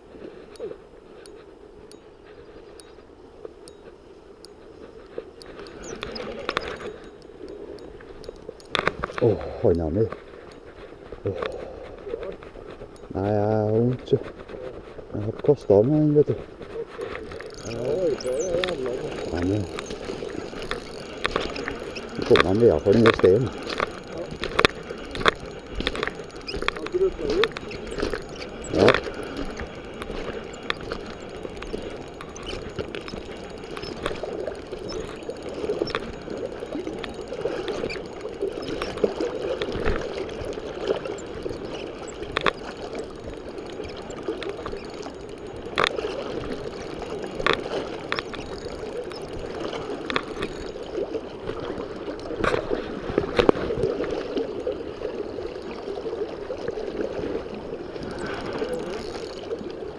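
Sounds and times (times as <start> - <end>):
river water gurgling: 0.0 - 59.9
fishing reel being cranked: 3.6 - 59.9.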